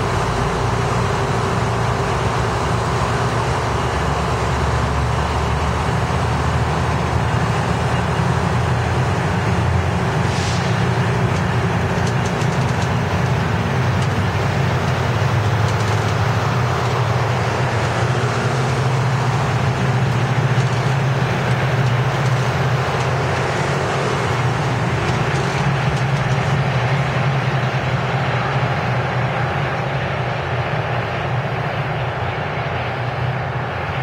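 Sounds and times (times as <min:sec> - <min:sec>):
diesel locomotive engine droning: 0:00.0 - 0:34.0
train wheels rumbling on rails: 0:00.0 - 0:34.0.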